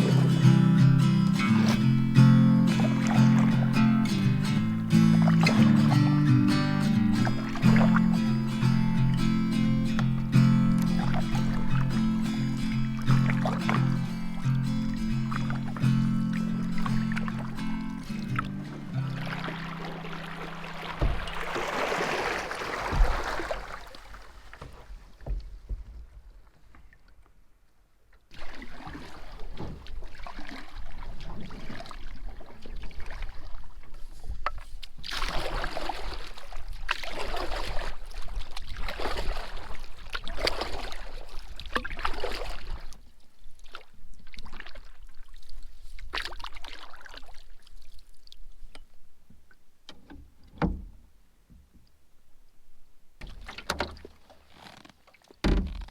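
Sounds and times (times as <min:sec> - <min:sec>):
water splashing from canoe paddling: 0:00.0 - 0:27.4, 0:28.2 - 0:50.9, 0:53.2 - 0:55.9.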